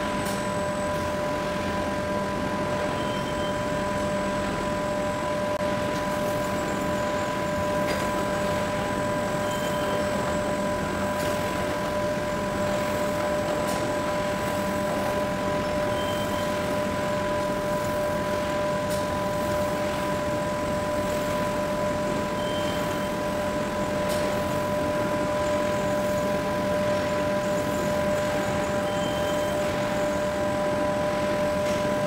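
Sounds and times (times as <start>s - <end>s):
wrapping machine humming: 0.0s - 32.0s.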